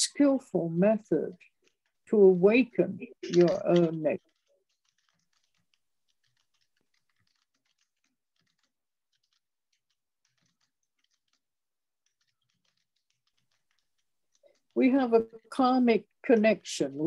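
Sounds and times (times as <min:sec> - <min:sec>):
faint irregular clicks: 0:01.4 - 0:17.0.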